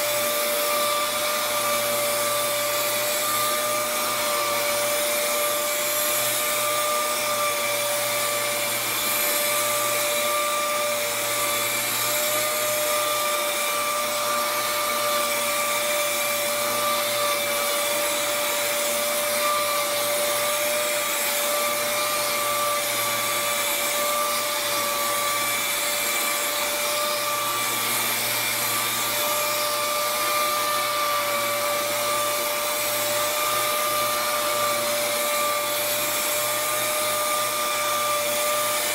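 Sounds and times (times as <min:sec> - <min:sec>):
orbital sander whining: 0:00.0 - 0:38.9.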